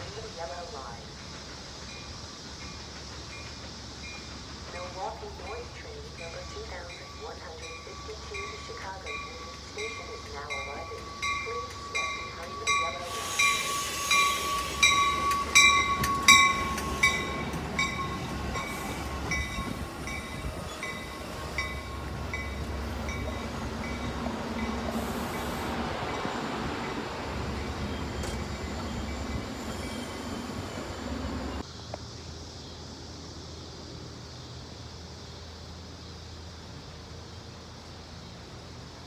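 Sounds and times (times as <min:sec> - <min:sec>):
train rumbling past: 0:00.0 - 0:31.7.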